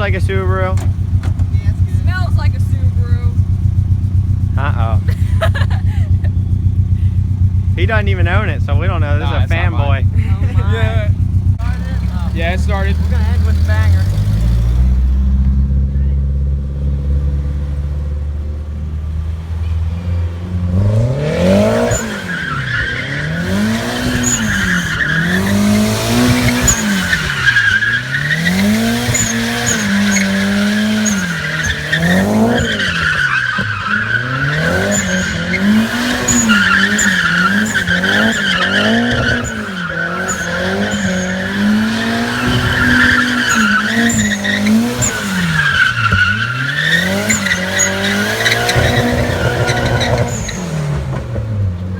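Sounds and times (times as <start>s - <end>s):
tyres squealing: 0.0s - 14.6s, 21.4s - 51.2s
car engine idling and revving: 0.0s - 51.9s.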